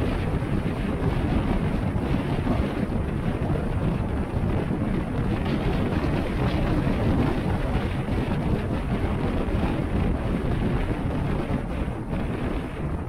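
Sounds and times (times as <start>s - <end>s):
road and wind noise rumble: 0.0s - 13.0s.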